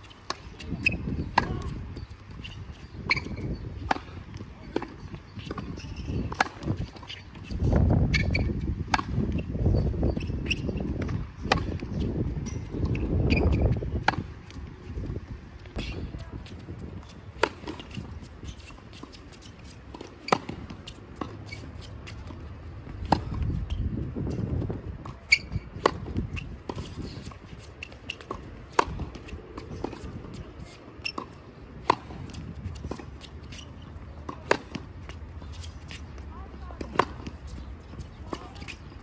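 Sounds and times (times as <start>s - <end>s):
racket hitting tennis ball: 0.0s - 23.4s, 24.2s - 39.0s
tennis ball bouncing: 0.0s - 39.0s.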